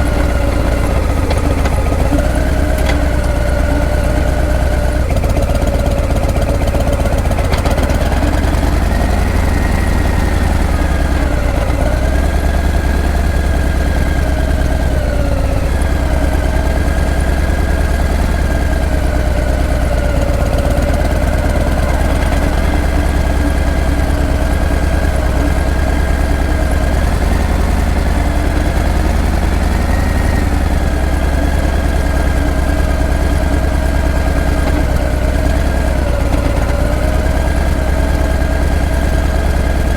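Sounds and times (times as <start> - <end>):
motorcycle engine at low revs: 0.0 - 39.9.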